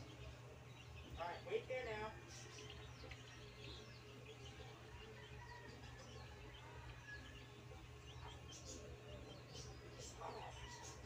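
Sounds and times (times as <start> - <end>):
low steady hum: 0.0 - 11.0
small birds chirping: 0.0 - 11.0.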